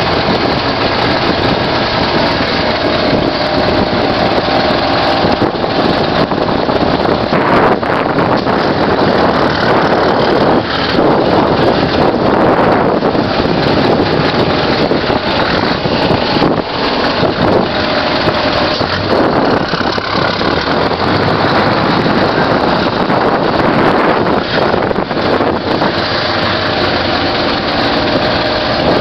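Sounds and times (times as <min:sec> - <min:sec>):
diesel engine running: 0:00.0 - 0:29.0
wind buffeting microphone: 0:00.0 - 0:29.0.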